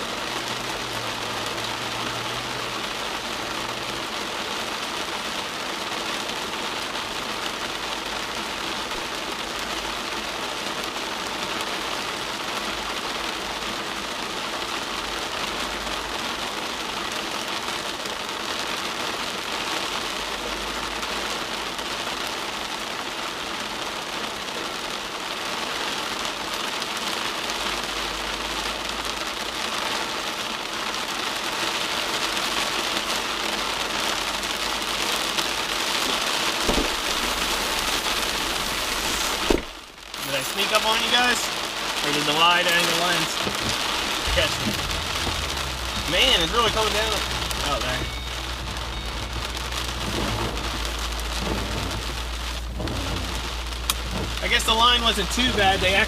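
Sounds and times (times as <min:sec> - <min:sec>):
heavy rain on car roof: 0:00.0 - 0:56.0.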